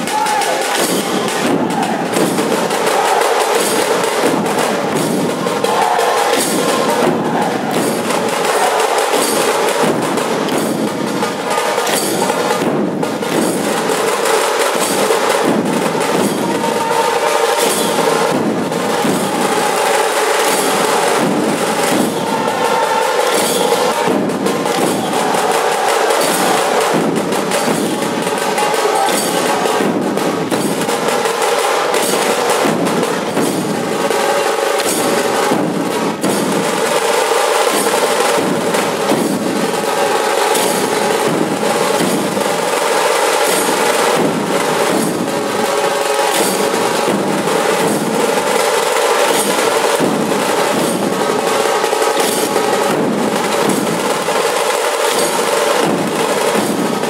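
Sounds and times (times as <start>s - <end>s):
barrel drums beating: 0.0s - 57.0s
brass cymbals clashing: 0.0s - 57.0s
tasha drums: 0.0s - 57.0s.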